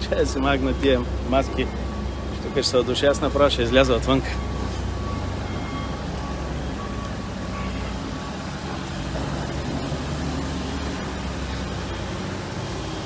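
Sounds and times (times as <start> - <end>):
vehicle engine running: 0.0 - 13.0
faint high beeps: 0.1 - 12.0.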